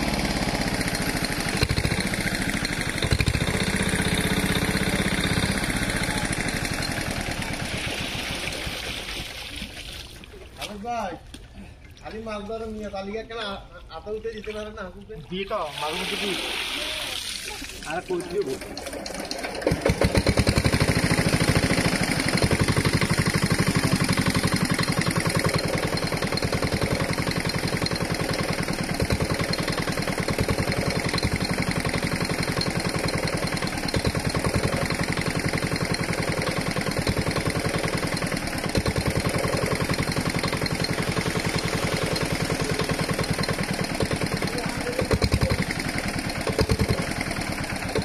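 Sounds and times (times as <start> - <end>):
small engine chugging: 0.0 - 9.3, 17.9 - 48.0.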